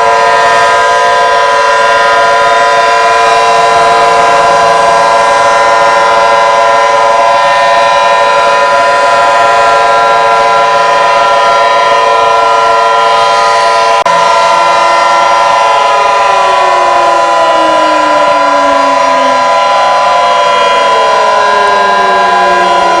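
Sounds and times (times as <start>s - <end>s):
outdoor warning sirens: 0.0s - 23.0s.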